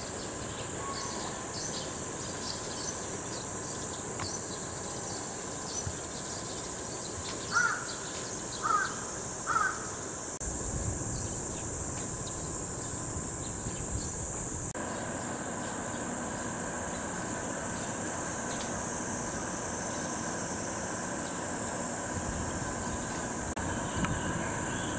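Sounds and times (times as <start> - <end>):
steady high buzz: 0.0 - 24.9.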